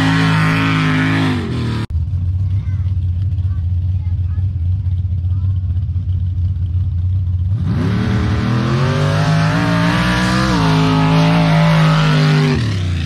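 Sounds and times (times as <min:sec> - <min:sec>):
low rumble of engines: 0:00.0 - 0:13.0
truck engine at full throttle: 0:00.0 - 0:13.0.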